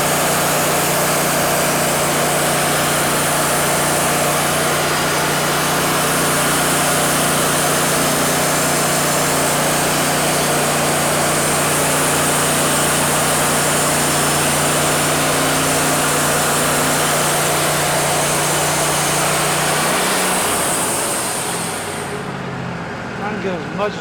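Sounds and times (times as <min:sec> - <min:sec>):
band saw blade cutting log: 0:00.0 - 0:22.3
sawmill engine running: 0:00.0 - 0:24.0.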